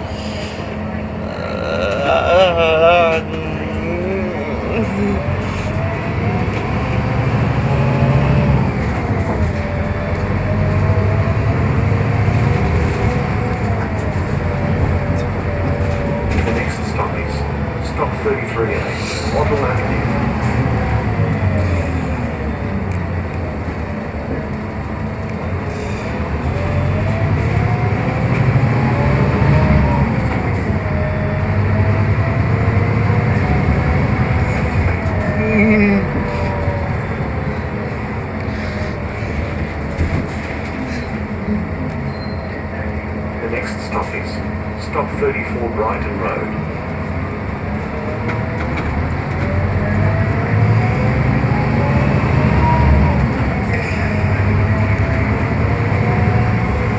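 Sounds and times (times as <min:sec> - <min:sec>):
bus drivetrain rumble: 0:00.0 - 0:56.9
road noise: 0:00.0 - 0:56.9.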